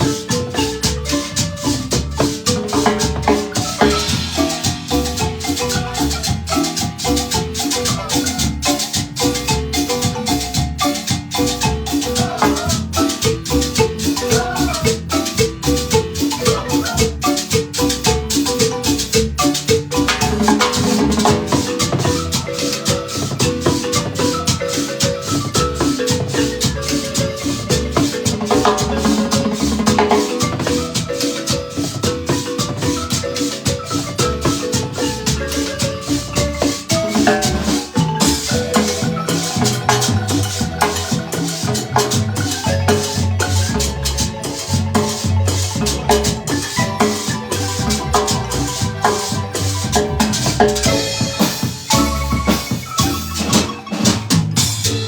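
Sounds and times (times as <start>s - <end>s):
marimba ensemble playing: 0.0s - 55.0s
shaker keeping time: 0.0s - 55.0s.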